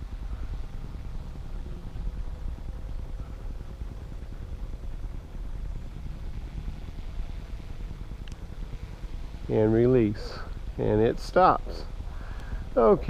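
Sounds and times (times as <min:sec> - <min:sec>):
quadcopter motors humming: 0:00.0 - 0:13.0
wind rumbling on microphone: 0:00.0 - 0:13.0.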